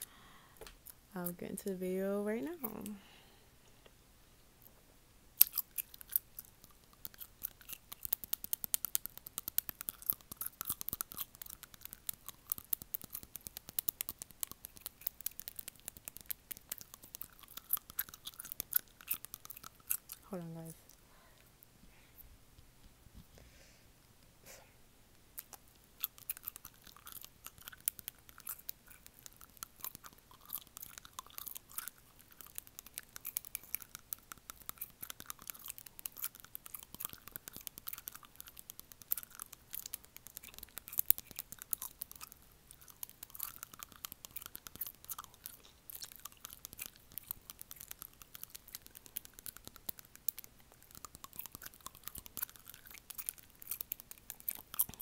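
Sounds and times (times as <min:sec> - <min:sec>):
fingernails tapping on teeth: 0:05.4 - 0:20.2, 0:25.4 - 0:55.0.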